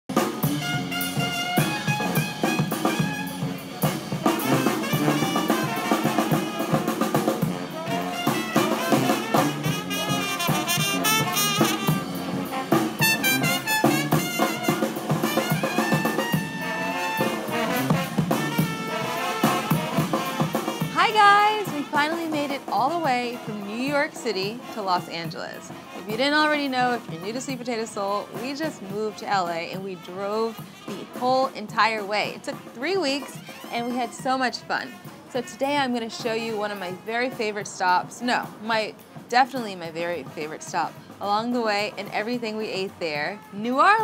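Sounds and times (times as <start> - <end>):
drum kit: 0.1 - 44.0
trombone: 0.1 - 44.0
trumpet: 0.1 - 44.0.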